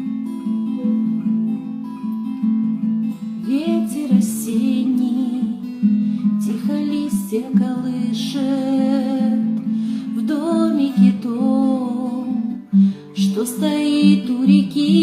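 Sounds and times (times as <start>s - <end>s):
fingerpicked acoustic guitar: 0.0s - 15.0s.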